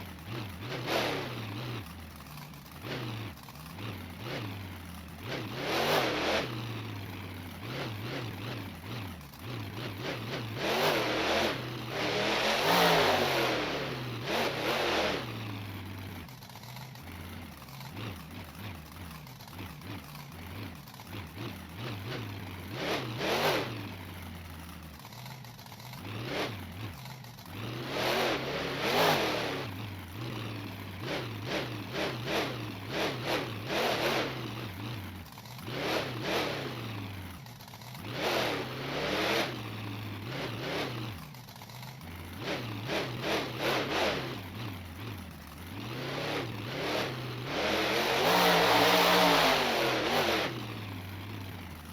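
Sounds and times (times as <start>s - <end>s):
truck engine idling and revving: 0.0s - 51.9s.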